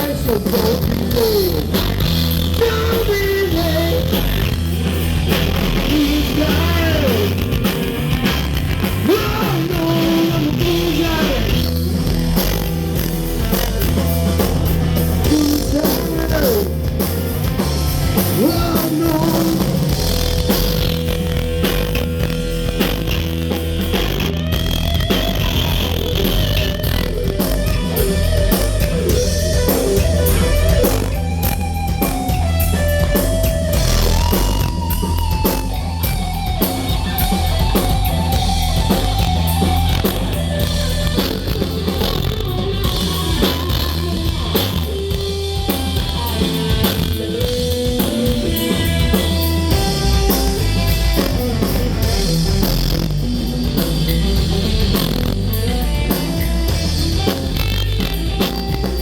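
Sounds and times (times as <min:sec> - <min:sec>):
bass: 0:00.0 - 0:59.0
drum kit: 0:00.0 - 0:59.0
electric guitar lead: 0:00.0 - 0:59.0.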